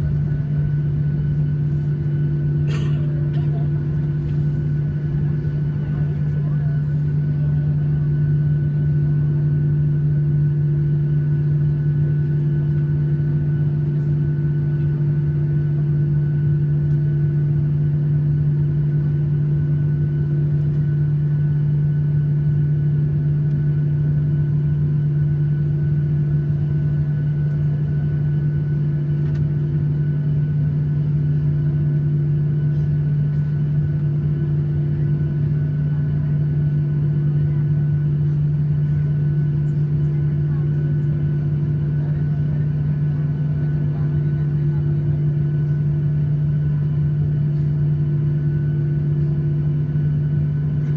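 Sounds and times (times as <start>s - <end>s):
airliner cabin hum: 0.0s - 50.9s
jet engines idling: 0.0s - 50.9s.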